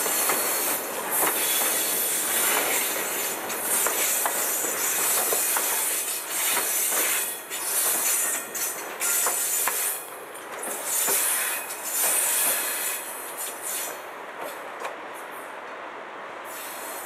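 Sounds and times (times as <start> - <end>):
rail clicks: 0.0 - 15.9
train wheels rushing on rails: 0.0 - 17.0.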